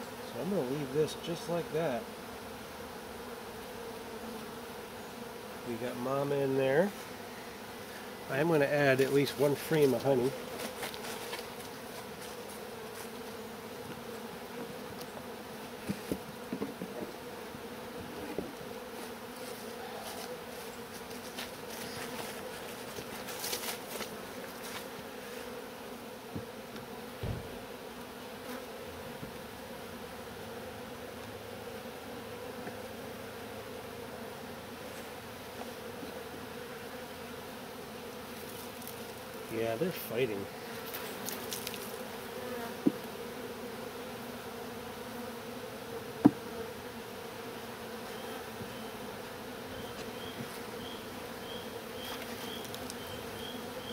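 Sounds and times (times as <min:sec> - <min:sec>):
honeybees humming: 0:00.0 - 0:53.9.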